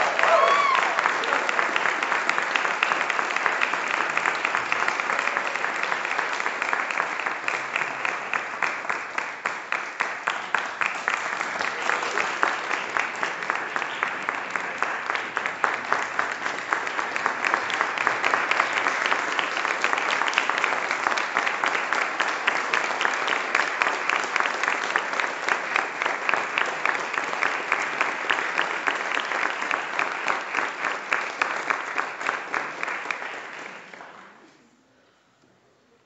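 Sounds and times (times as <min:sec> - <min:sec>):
audience applauding: 0:00.0 - 0:34.5.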